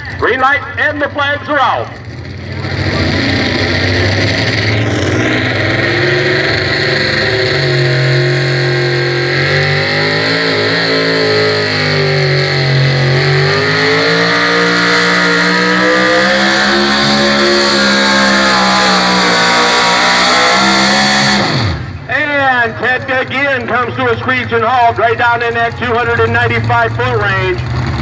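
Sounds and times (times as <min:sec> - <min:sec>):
truck engine running flat out: 0:00.0 - 0:28.0.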